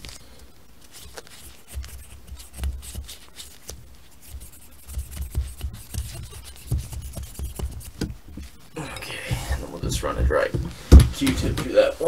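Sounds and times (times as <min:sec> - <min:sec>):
cotton swab scratchy rubbing: 0:00.0 - 0:10.5.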